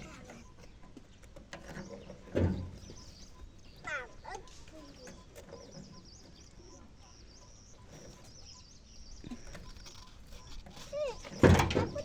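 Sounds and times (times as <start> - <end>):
bird chirping high: 0.3 - 12.0.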